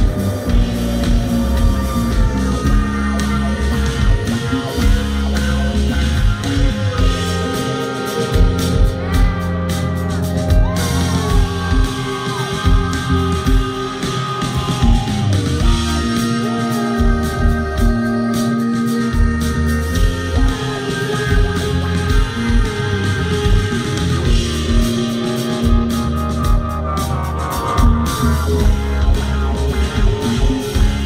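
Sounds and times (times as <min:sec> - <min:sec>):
live band playing: 0:00.0 - 0:31.0
person singing: 0:00.0 - 0:31.0.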